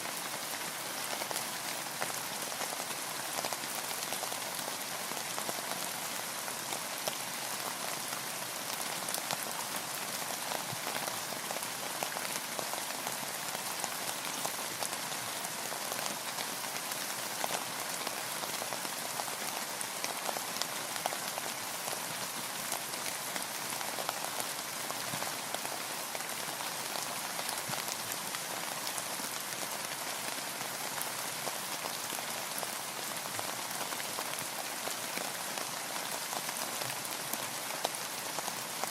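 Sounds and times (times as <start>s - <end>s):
rain pattering on roof and water: 0.0s - 38.9s.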